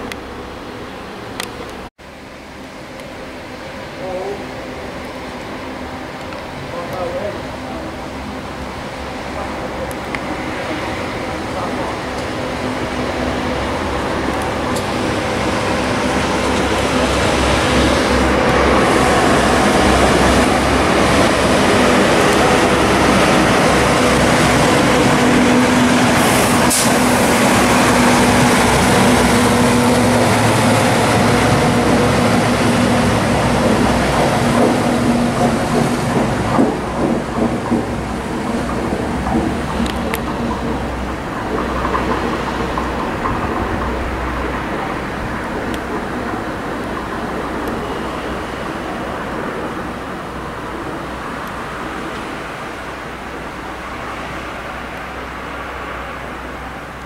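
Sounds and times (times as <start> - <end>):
locomotive engine droning: 0.0 - 57.0
wheels rumbling on rail: 0.0 - 57.0
train clanking: 3.0 - 55.4.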